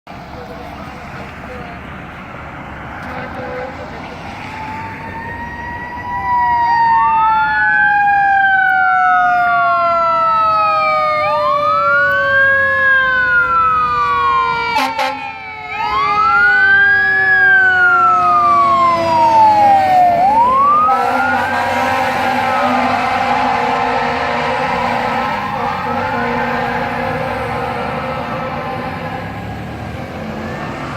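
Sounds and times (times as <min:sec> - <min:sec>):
fire engine siren wailing: 0:00.2 - 0:30.9
lower siren tone sliding down: 0:04.3 - 0:30.9.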